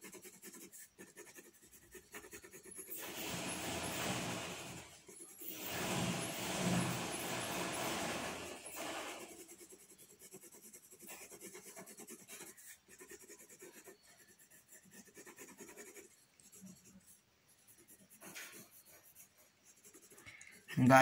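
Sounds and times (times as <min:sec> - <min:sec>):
pencil scratching on paper: 0:00.0 - 0:21.0.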